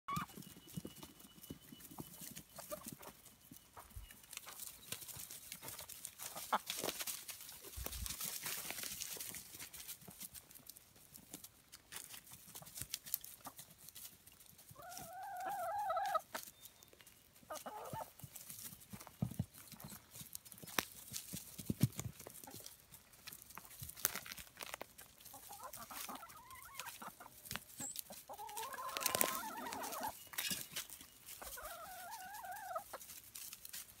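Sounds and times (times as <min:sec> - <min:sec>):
hens clucking: 0:00.1 - 0:10.2, 0:11.0 - 0:23.0, 0:24.8 - 0:33.3
pecking and scratching in dry grass: 0:00.1 - 0:34.0.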